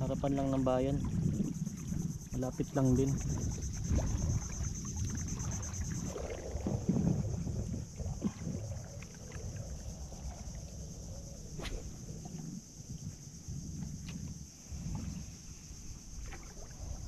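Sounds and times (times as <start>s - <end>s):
paddle strokes in water: 1.0s - 17.0s.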